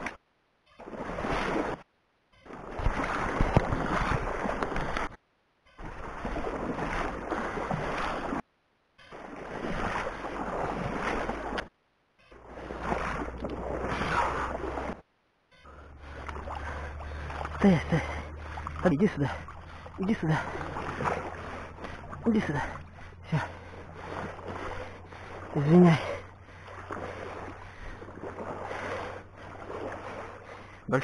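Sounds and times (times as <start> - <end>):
water sloshing around wading legs: 0.8 - 5.2, 5.8 - 8.4, 9.1 - 11.7, 12.3 - 31.0.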